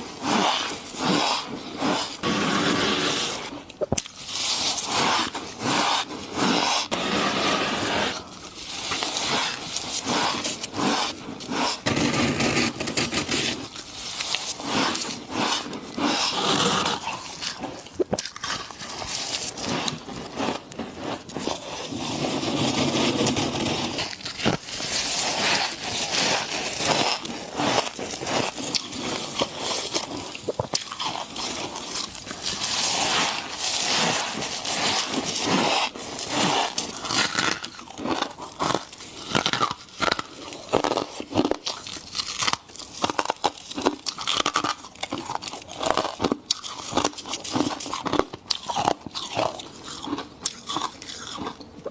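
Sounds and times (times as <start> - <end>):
person chewing ice: 0.0 - 51.9.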